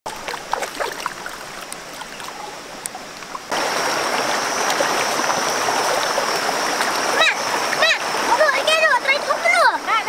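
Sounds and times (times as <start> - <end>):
fish splashing in shallow water: 0.1 - 8.5
rocky stream rushing: 0.1 - 10.0.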